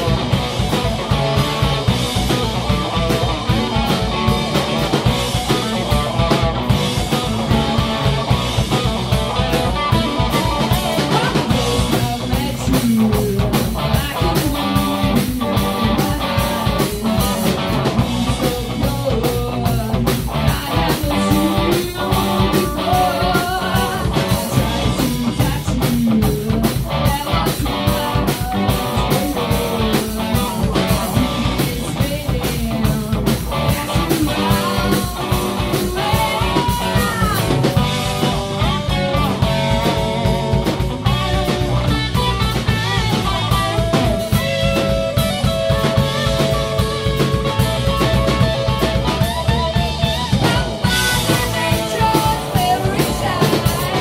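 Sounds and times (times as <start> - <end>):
hard rock band playing: 0.0 - 54.0.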